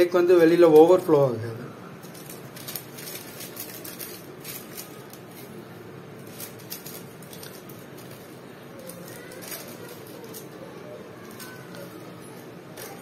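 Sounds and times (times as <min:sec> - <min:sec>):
room noise: 0:00.0 - 0:13.0
paper rustling and crinkling: 0:02.0 - 0:13.0.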